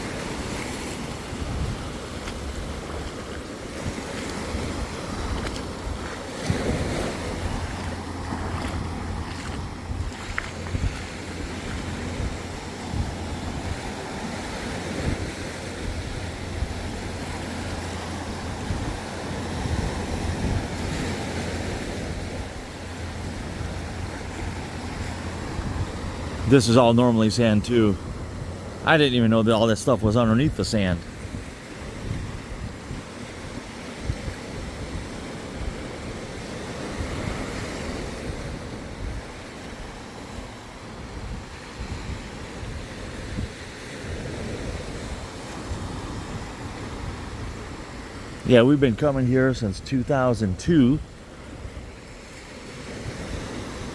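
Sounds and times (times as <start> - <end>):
surf washing onto beach: 0.0 - 53.9
wind buffeting microphone: 0.0 - 53.9.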